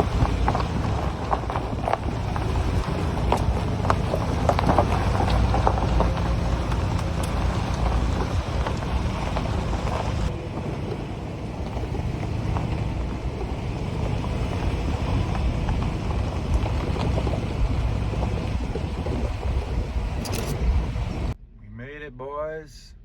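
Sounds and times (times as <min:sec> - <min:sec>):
stones ticking under tyres: 0:00.0 - 0:21.4
tyres rolling on gravel road: 0:00.0 - 0:21.4
low engine and road rumble: 0:00.0 - 0:22.0.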